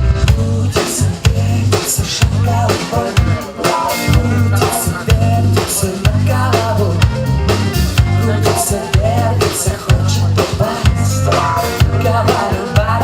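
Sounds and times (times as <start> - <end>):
bass guitar: 0.0 - 13.0
drum kit beat: 0.0 - 13.0
electric guitar: 0.0 - 13.0
rock band playing: 0.0 - 13.0.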